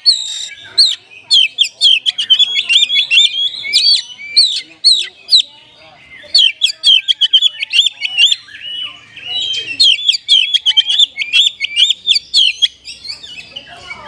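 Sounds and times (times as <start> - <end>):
bird singing rapid chirps: 0.0 - 14.0.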